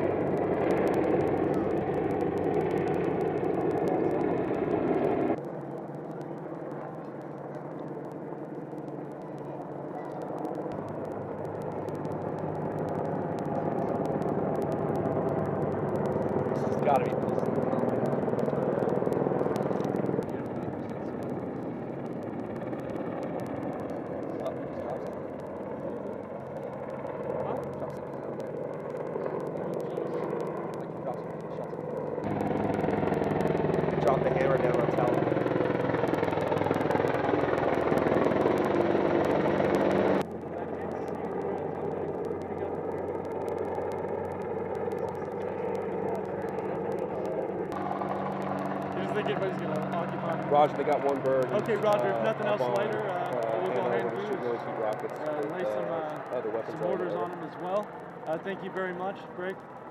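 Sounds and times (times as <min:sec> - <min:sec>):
faint clicks: 0:00.0 - 0:59.9
faint regular ticking: 0:00.0 - 0:59.9
helicopter engine and rotor: 0:00.0 - 0:59.9.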